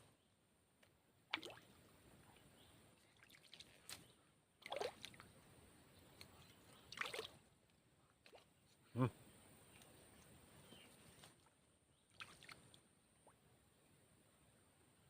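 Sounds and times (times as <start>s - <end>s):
faint water splashes: 1.2s - 7.5s, 8.2s - 14.0s.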